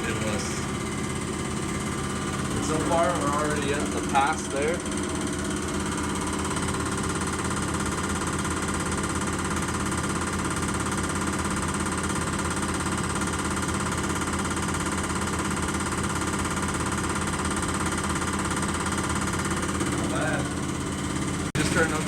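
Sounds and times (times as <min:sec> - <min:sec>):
injector test stand humming: 0:00.0 - 0:22.0.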